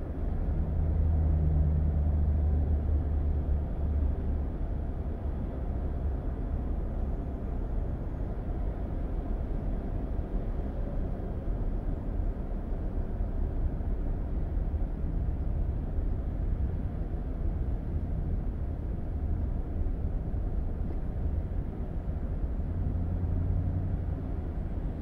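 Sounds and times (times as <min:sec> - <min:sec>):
car interior road noise: 0:00.0 - 0:25.0.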